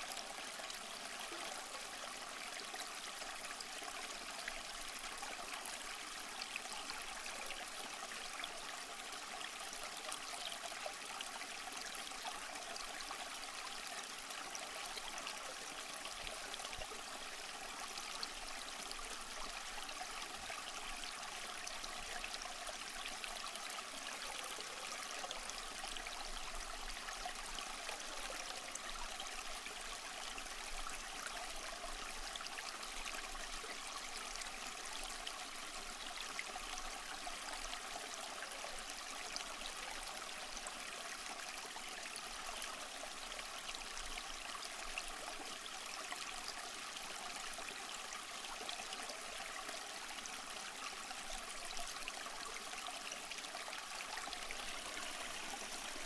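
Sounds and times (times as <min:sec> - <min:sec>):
soft steady rain: 0:00.0 - 0:56.0.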